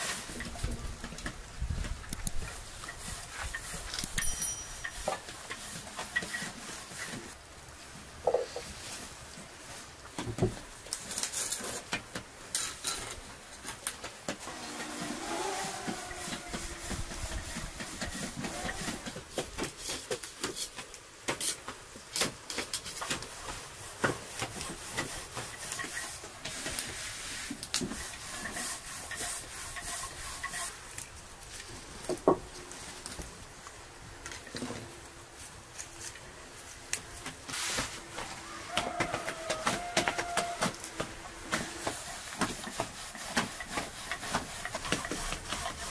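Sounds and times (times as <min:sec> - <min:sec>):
rubbing and rustling of dough: 0:00.0 - 0:45.9.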